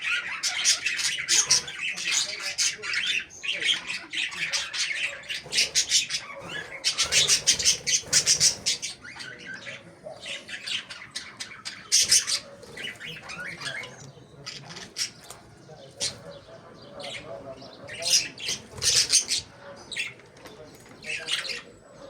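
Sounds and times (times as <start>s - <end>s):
cage birds chirping: 0.0s - 22.0s.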